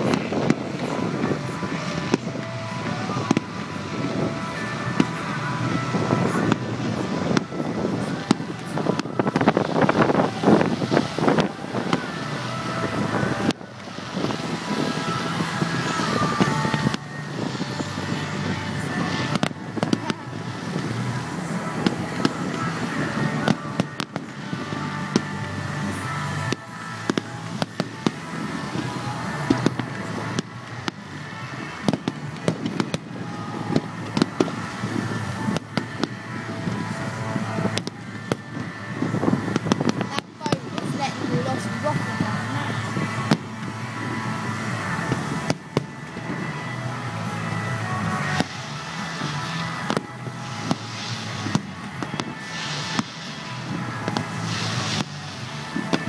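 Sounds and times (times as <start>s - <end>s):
fireworks bangs and cracks: 0.0s - 56.0s
music: 0.0s - 56.0s
steady background noise: 0.0s - 56.0s.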